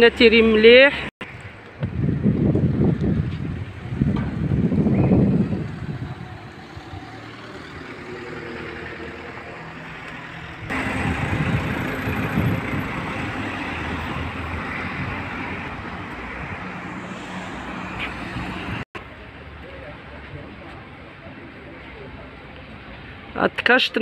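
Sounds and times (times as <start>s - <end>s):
passing cars: 0.0s - 24.0s
steady road hum: 0.0s - 24.0s.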